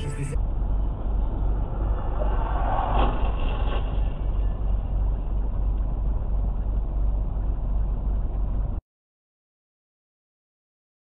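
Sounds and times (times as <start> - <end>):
car engine and road rumble: 0.0 - 8.8.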